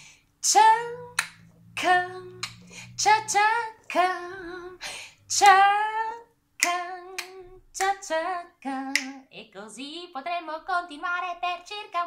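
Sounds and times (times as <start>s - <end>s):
woman's voice sing-song syllables: 0.4s - 12.0s.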